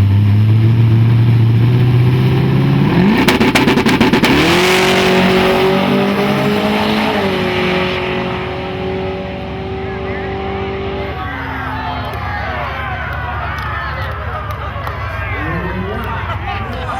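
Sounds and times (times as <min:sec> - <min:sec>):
engine crackle: 0:00.0 - 0:16.9
race car engine revving: 0:00.0 - 0:16.9.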